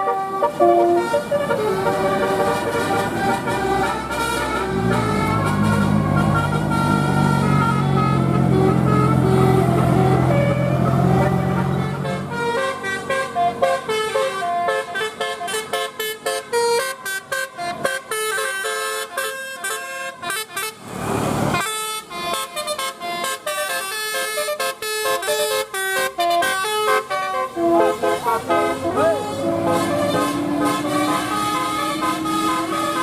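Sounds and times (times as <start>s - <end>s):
bus horn playing a tune: 0.0s - 20.9s, 21.5s - 33.0s.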